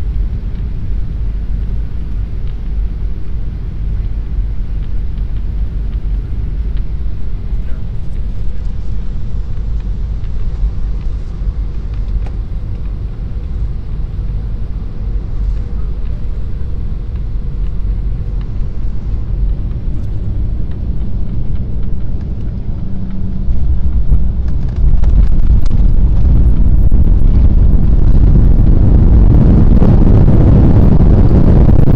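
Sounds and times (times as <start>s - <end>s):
airliner engines rumbling: 0.0s - 31.9s
rushing air: 0.0s - 31.9s.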